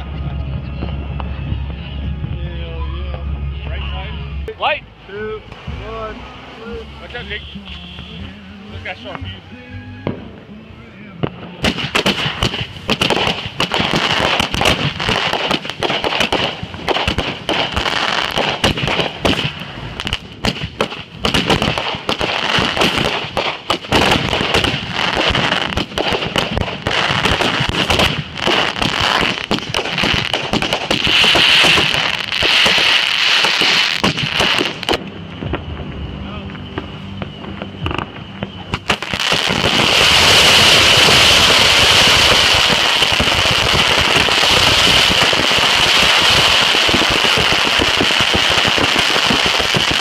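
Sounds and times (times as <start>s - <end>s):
fireworks crackling and popping: 3.1s - 9.3s, 10.0s - 50.0s.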